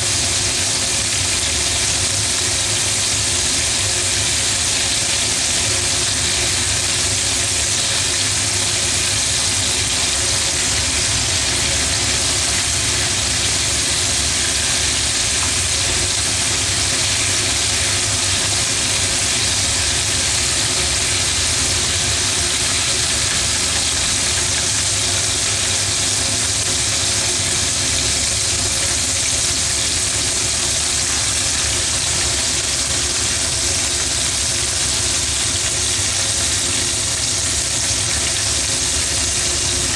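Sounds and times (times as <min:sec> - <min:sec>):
oil sizzling with frying meat: 0:00.0 - 0:39.9.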